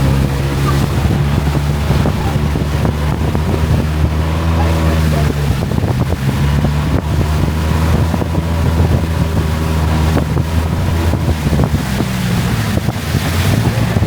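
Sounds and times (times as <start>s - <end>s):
boat engine running: 0.0s - 14.0s
wind buffeting microphone: 0.0s - 14.0s.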